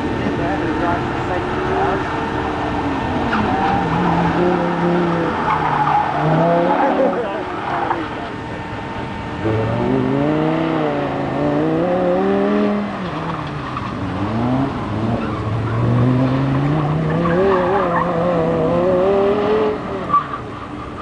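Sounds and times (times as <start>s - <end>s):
distant sports car engine revving: 0.0s - 21.0s.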